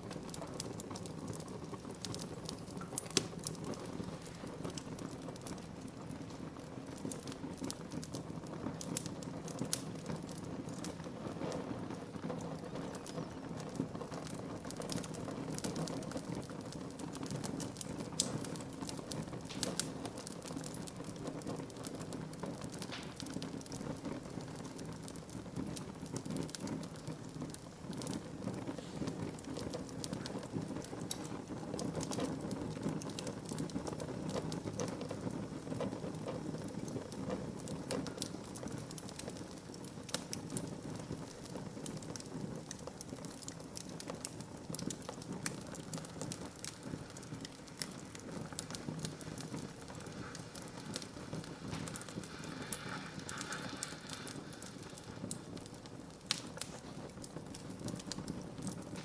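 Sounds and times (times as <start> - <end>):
burning wood crackling: 0.0 - 59.0
fire flames rushing: 0.1 - 59.0.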